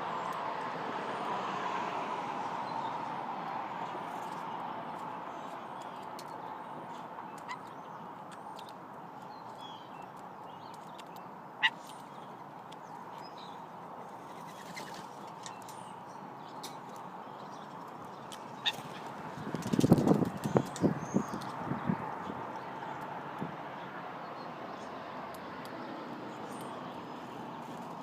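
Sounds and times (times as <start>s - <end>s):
birds chirping: 3.8s - 28.0s.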